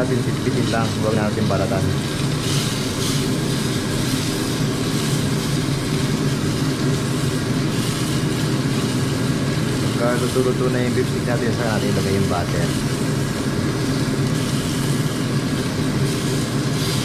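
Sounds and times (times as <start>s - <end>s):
low mechanical hum: 0.0s - 17.0s
steak sizzling in frying pan: 0.0s - 17.0s.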